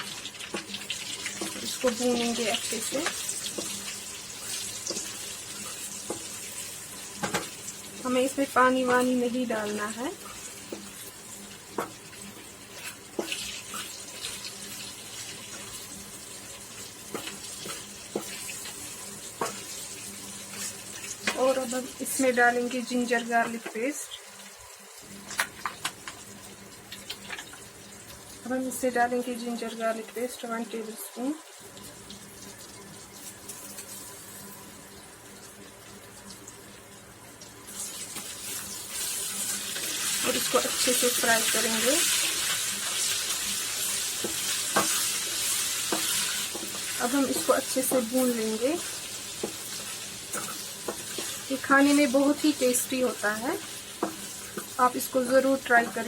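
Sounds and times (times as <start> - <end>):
fish sizzling in hot oil: 0.0 - 56.0.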